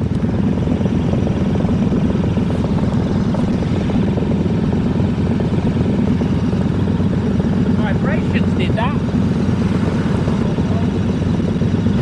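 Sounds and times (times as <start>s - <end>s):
motorcycle engine cruising: 0.0s - 12.0s
wind over microphone: 0.0s - 12.0s.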